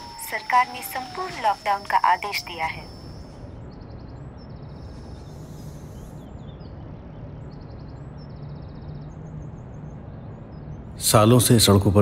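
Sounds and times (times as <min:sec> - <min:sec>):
high chirping trills: 0:00.0 - 0:11.3
low hum: 0:00.0 - 0:12.0.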